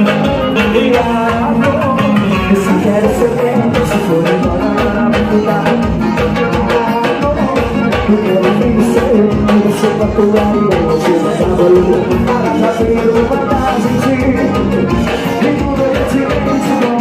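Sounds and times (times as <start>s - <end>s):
band playing dance music: 0.0s - 17.0s
congas: 0.0s - 17.0s
electric bass: 0.0s - 17.0s
electric keyboard: 0.0s - 17.0s.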